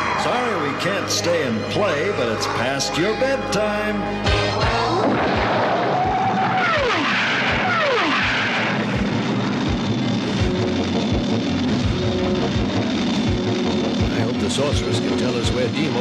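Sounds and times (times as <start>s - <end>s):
background music with steady beat: 0.0s - 5.0s, 7.6s - 16.0s
jet-like whine swooping: 0.0s - 16.0s.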